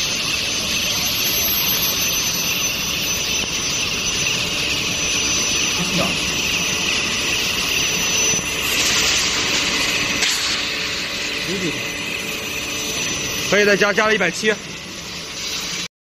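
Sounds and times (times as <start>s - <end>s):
high steady whine: 0.0s - 15.9s.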